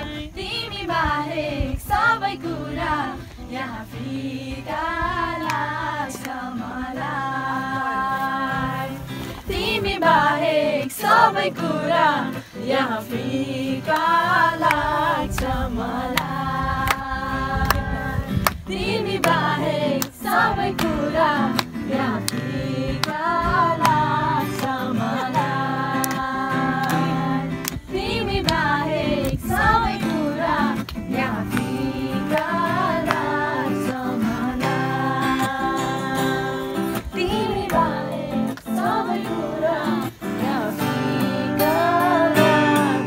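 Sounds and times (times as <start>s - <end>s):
strummed acoustic guitar: 0.0s - 43.0s
women singing together: 0.0s - 43.0s.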